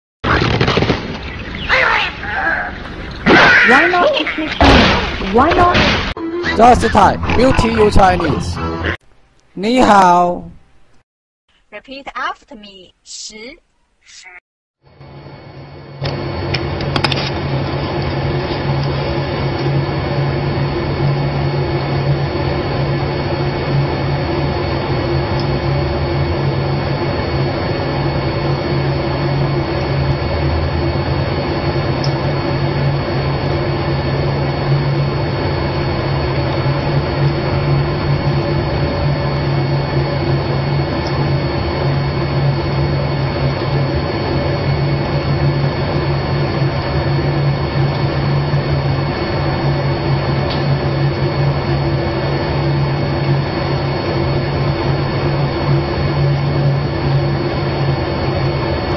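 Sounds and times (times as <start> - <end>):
mechanical hum with low drone: 0.2 - 58.9.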